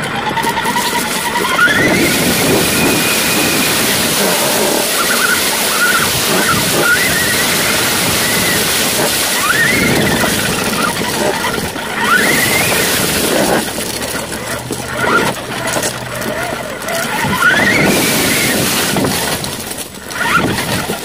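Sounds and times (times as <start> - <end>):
loud steady rushing noise: 0.0 - 21.0
toy truck motor whining: 0.0 - 21.0.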